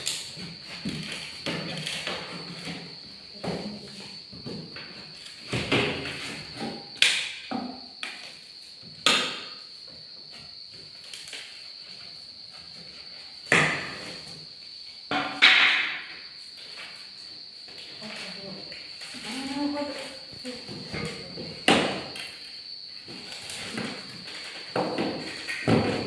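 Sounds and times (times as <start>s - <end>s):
high-pitched cricket trill: 0.0s - 26.0s.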